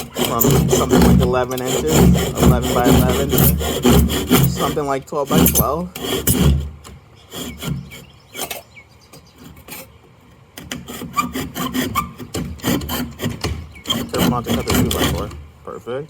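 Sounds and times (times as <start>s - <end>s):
saw rasping through wood: 0.0s - 8.6s, 10.6s - 15.5s.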